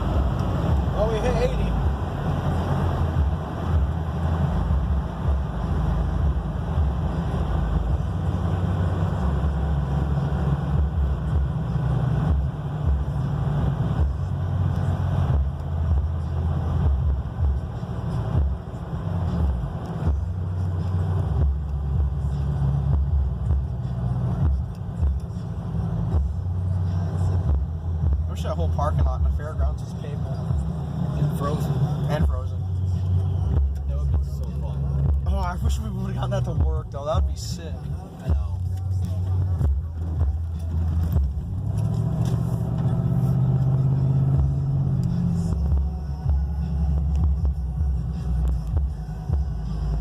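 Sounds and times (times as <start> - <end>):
pickup engine and road rumble: 0.0 - 50.0.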